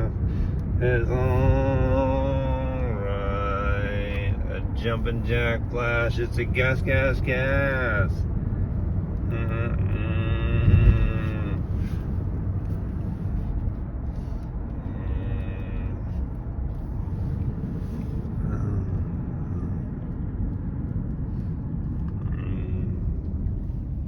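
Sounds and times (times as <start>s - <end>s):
road and rain rumble in car: 0.0s - 24.0s.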